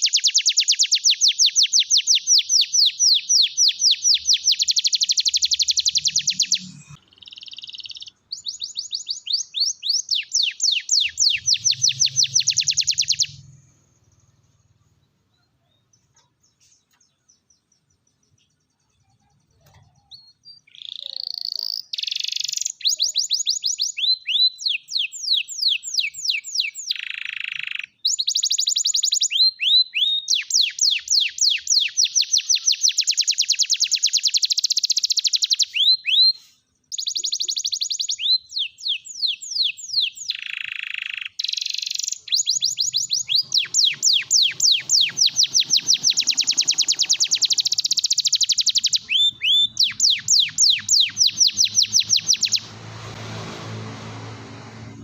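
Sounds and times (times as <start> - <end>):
canary singing trills: 0.0 - 52.8.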